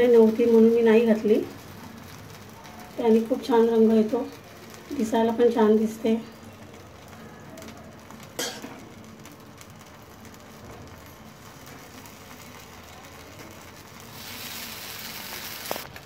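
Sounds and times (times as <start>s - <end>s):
pizza base sizzling in a pan: 0.0s - 16.0s.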